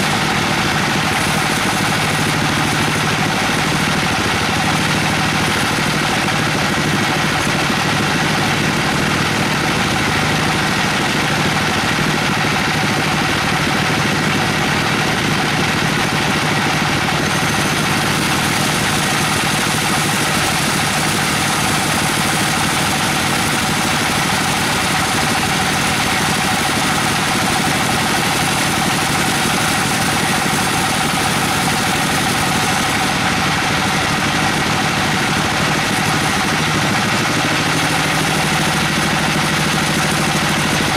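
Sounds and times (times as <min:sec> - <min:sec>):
bandsaw cutting log: 0:00.0 - 0:40.9.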